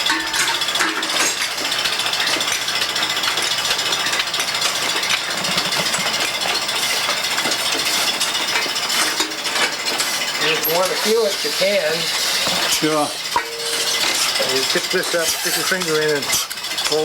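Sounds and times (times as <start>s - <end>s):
milking machine hissing and rattling: 0.0s - 17.0s.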